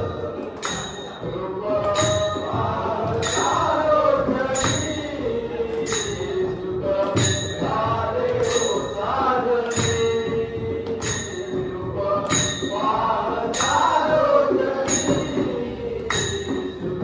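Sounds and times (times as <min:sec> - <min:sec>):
hand cymbals ringing: 0:00.0 - 0:17.0
men singing in unison: 0:00.0 - 0:17.0.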